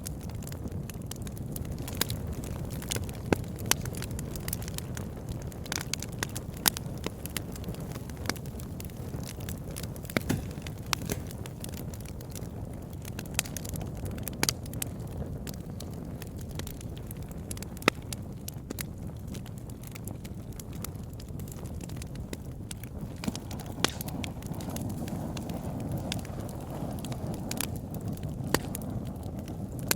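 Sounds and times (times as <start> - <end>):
campfire crackling: 0.0 - 29.9.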